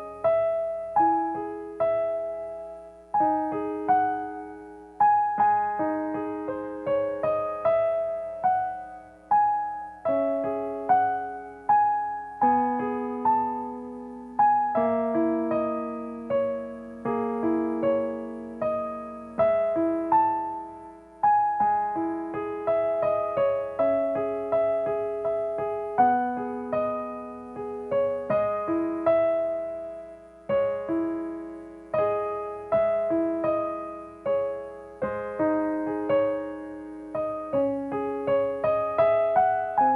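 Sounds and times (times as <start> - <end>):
slow gentle piano: 0.0 - 39.9.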